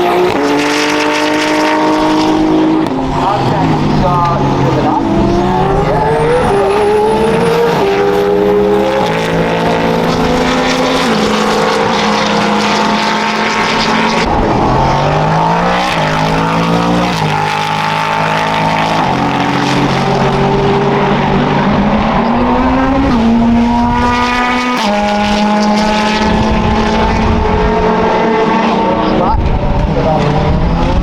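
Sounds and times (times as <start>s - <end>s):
racing car engines: 0.0s - 31.0s.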